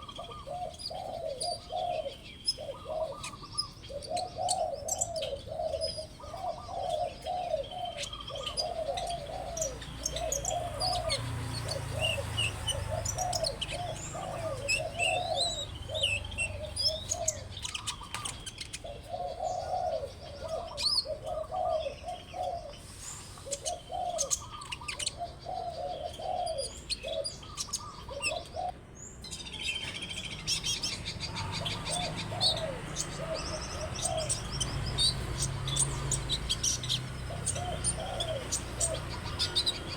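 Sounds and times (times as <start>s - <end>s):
high bird chirps and trills: 0.0s - 39.9s.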